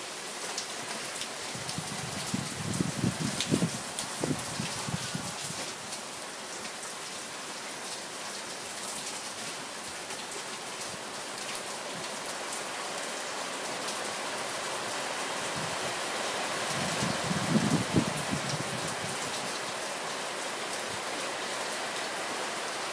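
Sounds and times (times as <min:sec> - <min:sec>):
rain on pavement and cars: 0:00.0 - 0:22.9.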